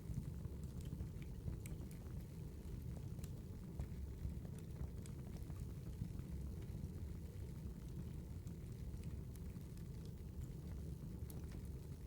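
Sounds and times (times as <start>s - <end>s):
firewood fire crackling: 0.0s - 12.0s.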